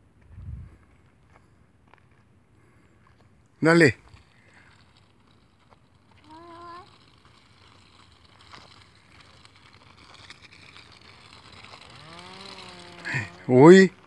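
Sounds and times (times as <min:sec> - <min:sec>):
faint rustling: 0:00.2 - 0:14.0.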